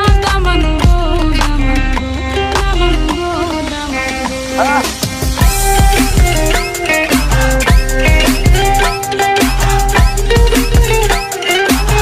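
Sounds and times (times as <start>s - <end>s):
folk song instrumental with beat: 0.0s - 12.0s.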